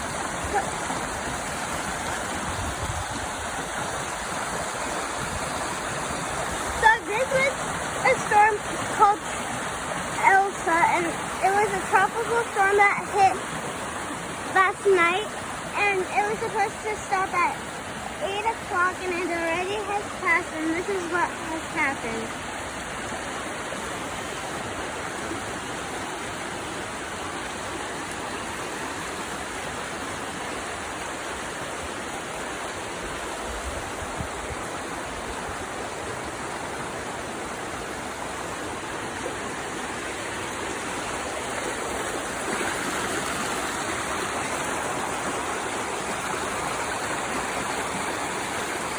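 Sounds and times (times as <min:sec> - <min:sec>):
storm water rushing: 0:00.0 - 0:48.9.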